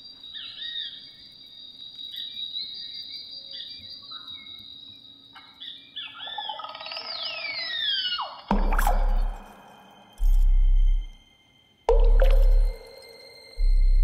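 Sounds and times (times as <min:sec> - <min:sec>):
high cricket-like drone: 0:00.0 - 0:14.0.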